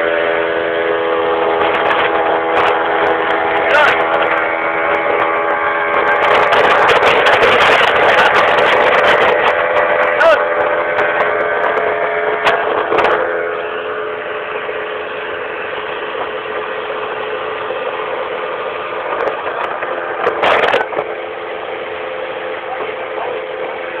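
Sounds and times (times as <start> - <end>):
loud rush of noise: 0.0 - 24.0
outboard motor running: 0.0 - 24.0.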